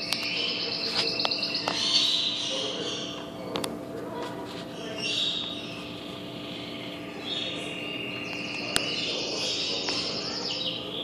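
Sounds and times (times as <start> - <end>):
birds chirping and trilling: 0.0 - 11.0
faint steady hum: 0.0 - 11.0.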